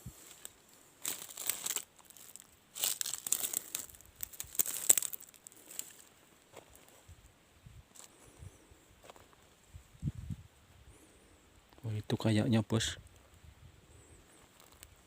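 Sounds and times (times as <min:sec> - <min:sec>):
dry grass and brush crackling: 0:00.0 - 0:12.2, 0:13.0 - 0:15.0.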